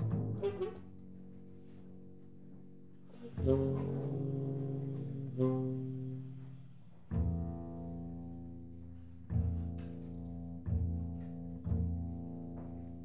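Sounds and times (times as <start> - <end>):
double bass: 0.0 - 13.0
tenor saxophone: 0.1 - 13.0.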